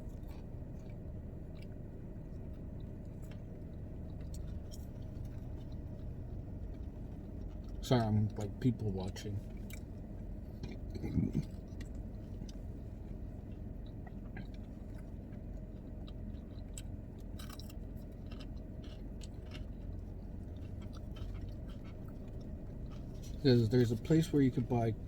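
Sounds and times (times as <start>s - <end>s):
person chewing food: 0.0s - 23.4s
steady low hum: 0.0s - 25.0s.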